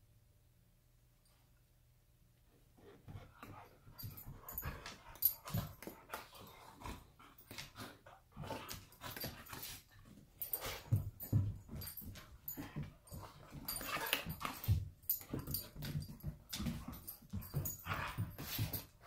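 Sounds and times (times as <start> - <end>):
dogs play-fighting: 2.8 - 19.0.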